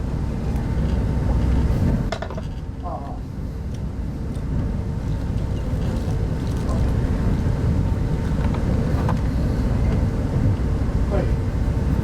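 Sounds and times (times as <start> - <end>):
moving train rumbling: 0.0 - 12.0.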